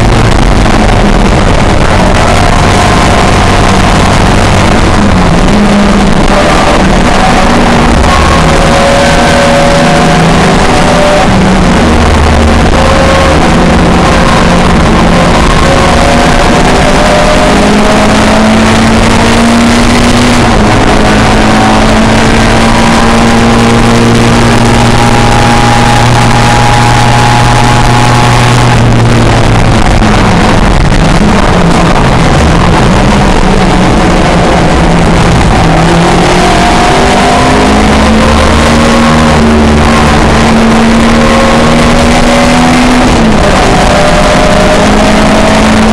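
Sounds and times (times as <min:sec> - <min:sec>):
dense rush of noise: 0:00.0 - 0:45.9
racing car engines revving: 0:00.0 - 0:45.9.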